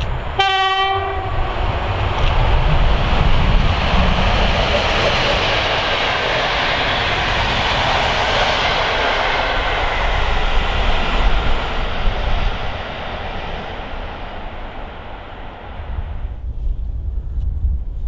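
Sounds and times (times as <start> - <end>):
train wheels rushing on rails: 0.0 - 16.7.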